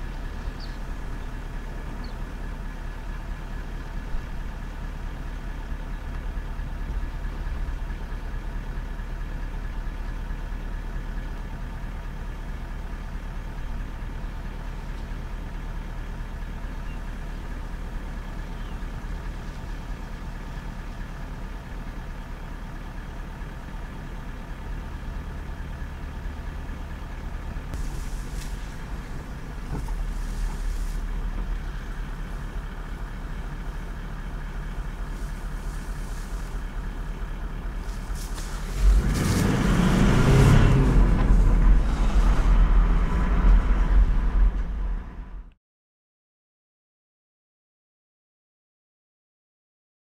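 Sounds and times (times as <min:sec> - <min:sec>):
car engine idling and revving: 0:00.0 - 0:45.6.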